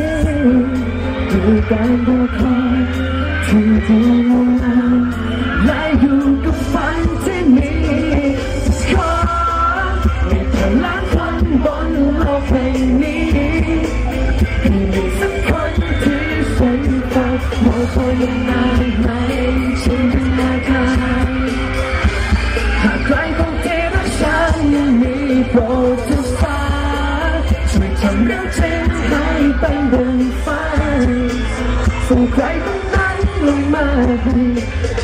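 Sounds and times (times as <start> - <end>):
heavy boomy bass: 0.0 - 35.0
live pop song over loudspeakers: 0.0 - 35.0
man singing: 0.0 - 35.0.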